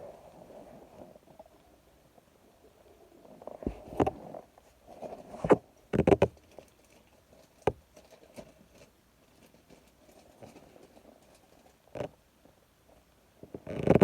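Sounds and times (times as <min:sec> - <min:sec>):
faint rustling: 0:00.0 - 0:14.0.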